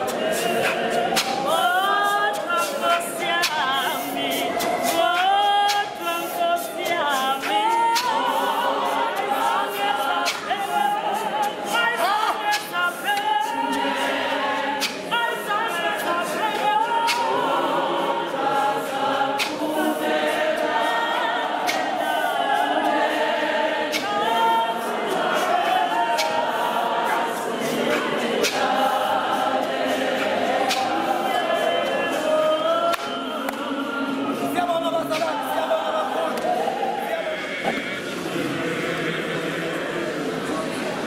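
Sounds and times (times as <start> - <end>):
choir singing unaccompanied: 0.0 - 41.0.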